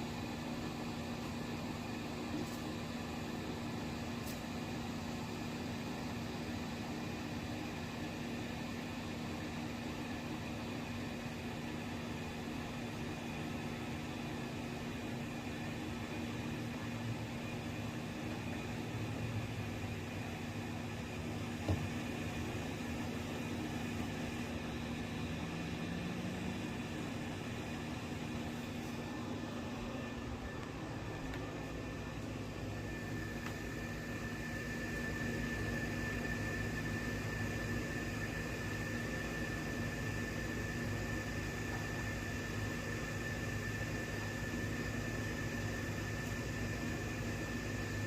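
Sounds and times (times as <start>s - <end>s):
mechanical hum: 0.0s - 48.0s.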